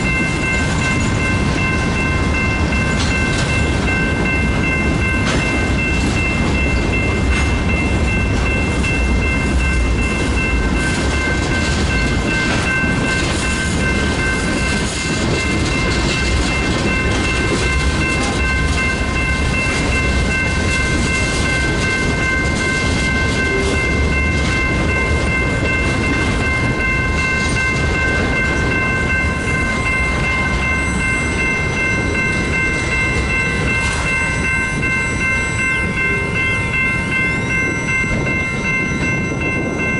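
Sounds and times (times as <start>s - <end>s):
clickety-clack of wheels: 0.0s - 36.2s
high-pitched ringing tones: 0.0s - 39.9s
train wheels rumbling on rail: 0.0s - 39.9s.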